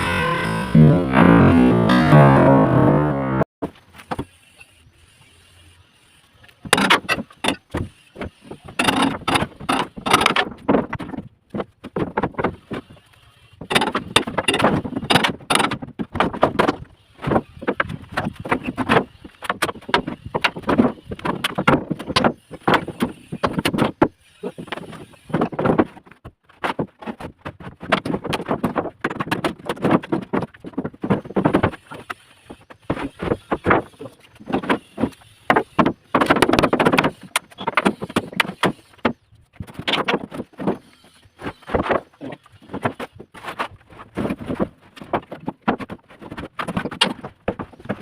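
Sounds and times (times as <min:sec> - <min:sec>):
boards and props knocking and clattering: 0:00.0 - 0:04.7, 0:06.4 - 0:48.0.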